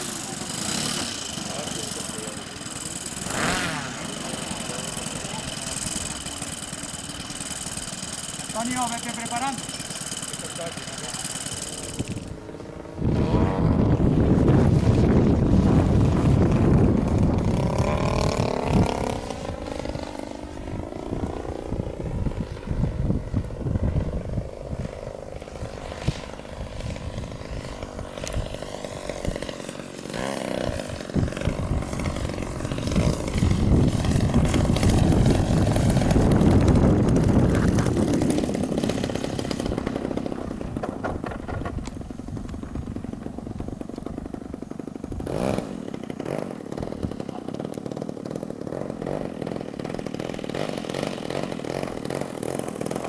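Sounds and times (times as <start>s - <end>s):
model airplane engine buzzing: 0.0s - 53.0s.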